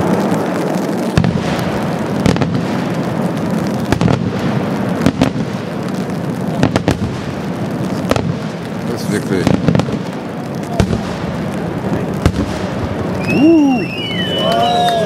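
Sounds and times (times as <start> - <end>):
distant firework shells bursting: 0.0 - 14.4.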